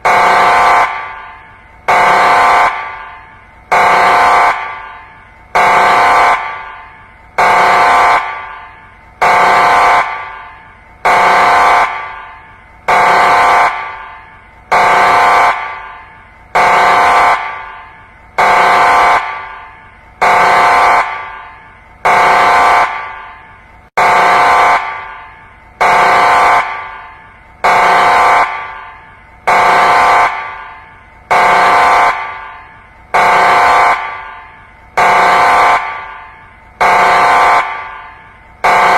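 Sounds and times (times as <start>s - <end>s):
buzzy alarm blast: 0.0s - 38.9s.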